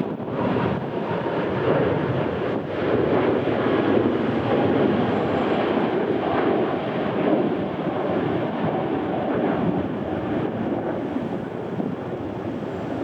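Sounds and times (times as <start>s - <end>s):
jet engine rush with whine: 0.0s - 13.0s.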